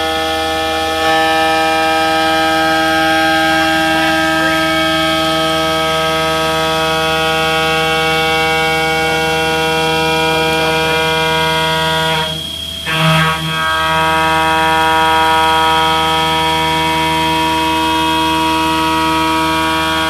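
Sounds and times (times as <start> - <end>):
milling machine spindle whine: 0.0 - 20.0.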